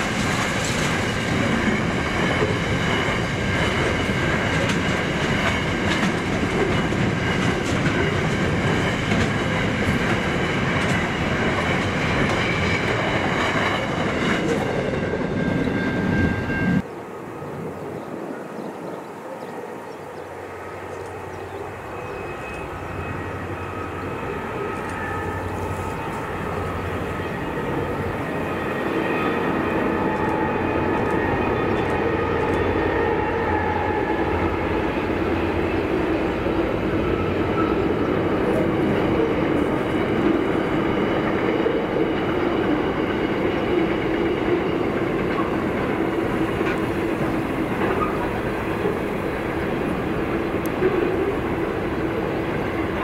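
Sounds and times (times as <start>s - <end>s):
diesel locomotive humming and whining: 0.0s - 53.0s.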